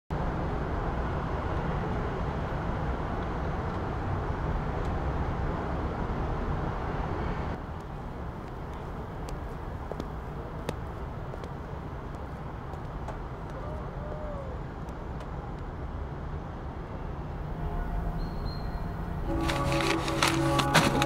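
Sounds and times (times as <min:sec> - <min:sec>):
low traffic hum: 0:00.1 - 0:21.0.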